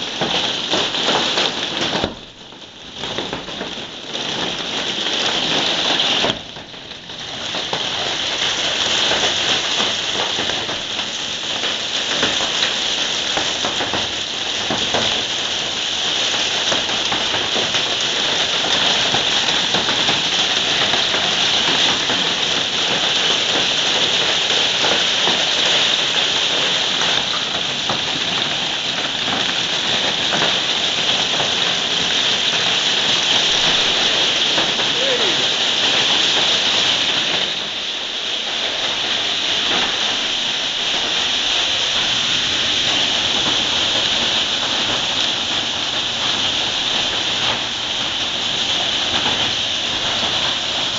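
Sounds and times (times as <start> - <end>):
hail and heavy rain pelting: 0.0 - 50.9.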